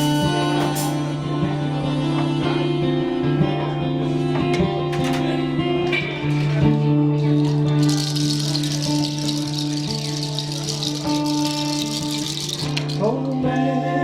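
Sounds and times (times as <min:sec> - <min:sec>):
guitar chords and picked notes: 0:00.0 - 0:14.0.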